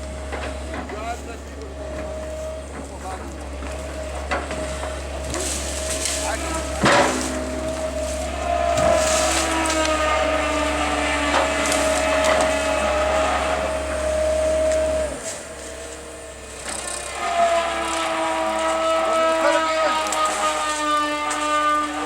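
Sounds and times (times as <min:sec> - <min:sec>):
excavator engine and hydraulics whine: 0:00.0 - 0:22.0
wood splitting cracks: 0:02.8 - 0:22.0.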